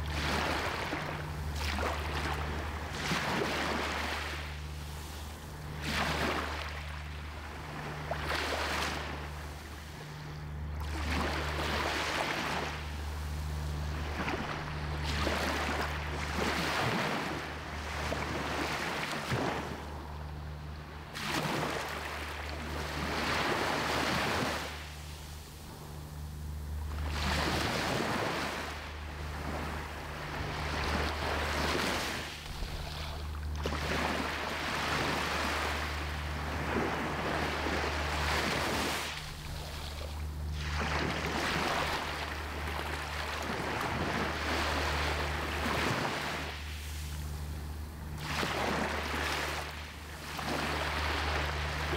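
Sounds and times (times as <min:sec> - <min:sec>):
waves breaking on sand: 0:00.0 - 0:10.2, 0:10.8 - 0:19.9, 0:21.1 - 0:25.8, 0:26.8 - 0:51.9
steady low rumble: 0:00.0 - 0:51.9.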